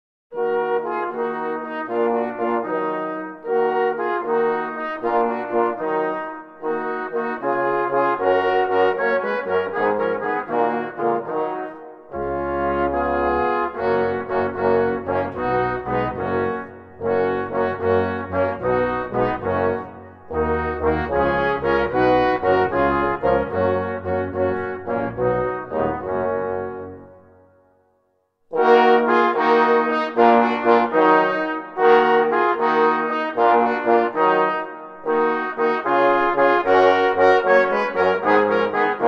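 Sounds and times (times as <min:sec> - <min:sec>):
brass melody: 0:00.3 - 0:27.9, 0:28.5 - 0:39.0.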